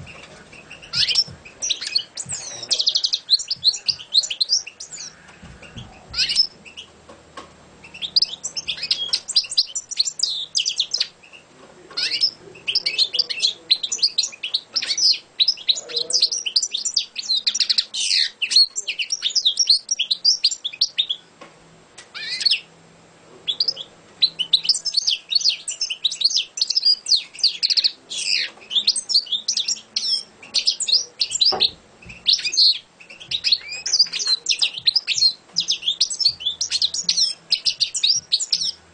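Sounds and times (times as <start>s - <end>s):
goldfinch twittering song: 0.0s - 7.0s, 7.8s - 21.3s, 22.1s - 22.7s, 23.5s - 38.8s.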